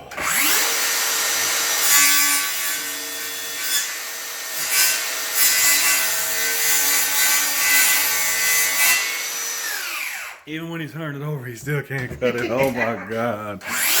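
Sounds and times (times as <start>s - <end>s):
circular saw cutting wood: 0.0s - 10.4s, 13.1s - 14.0s.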